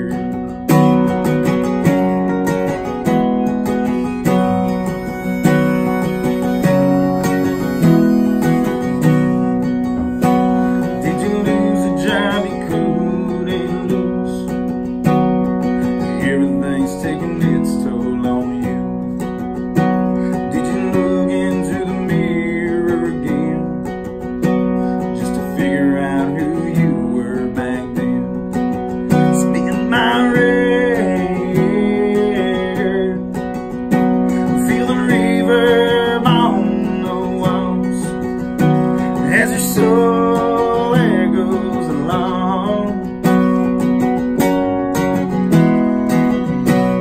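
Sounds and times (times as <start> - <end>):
harmonica melody: 0.0 - 16.2, 17.8 - 25.6, 28.7 - 47.0
acoustic guitars strumming: 0.0 - 47.0.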